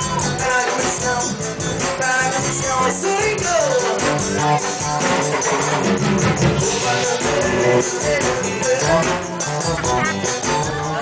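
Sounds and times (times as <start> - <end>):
live band music: 0.0 - 11.0
person singing: 0.0 - 11.0.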